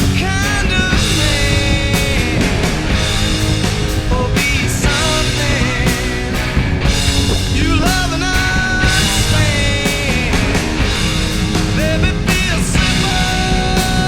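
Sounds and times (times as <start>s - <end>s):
lead guitar bending notes: 0.0s - 14.0s
rock band playing: 0.0s - 14.0s.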